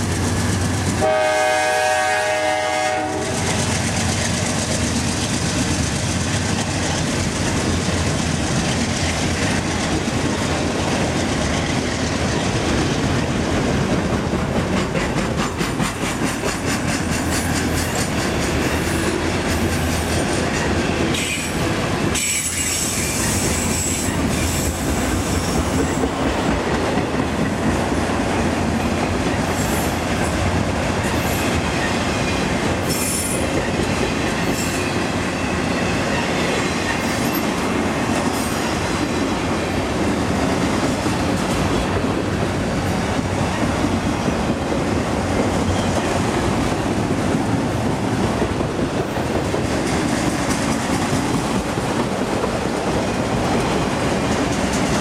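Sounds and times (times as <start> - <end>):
train wheels running on rails: 0.0 - 55.0.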